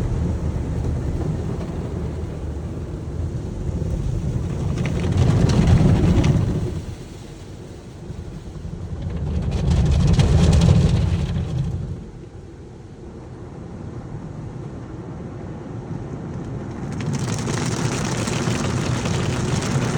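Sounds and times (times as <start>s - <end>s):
car wash water spray: 0.0s - 12.8s, 16.6s - 19.9s.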